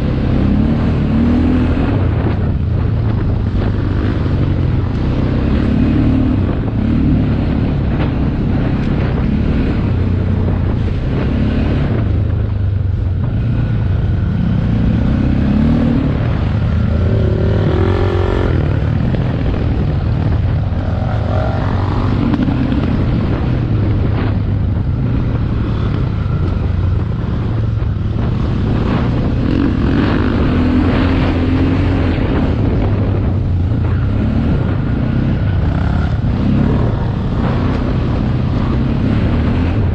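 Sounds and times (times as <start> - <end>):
low rumble: 0.0 - 38.9
motorcycle engine revving: 0.0 - 39.9.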